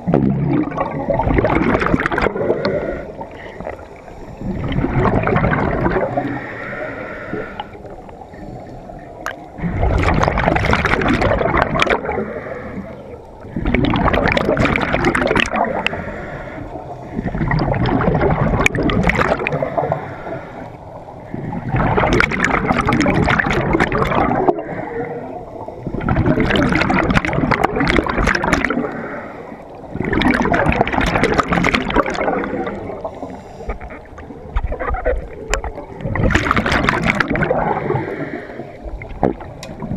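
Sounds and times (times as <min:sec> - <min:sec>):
bubbling regulator exhalations: 0:00.0 - 0:07.8, 0:09.2 - 0:16.2, 0:17.1 - 0:20.1, 0:21.3 - 0:24.8, 0:25.8 - 0:29.1, 0:29.8 - 0:39.9.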